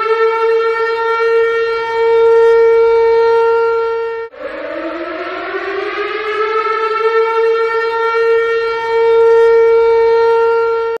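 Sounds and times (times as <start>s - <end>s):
warning siren wailing: 0.0s - 11.0s.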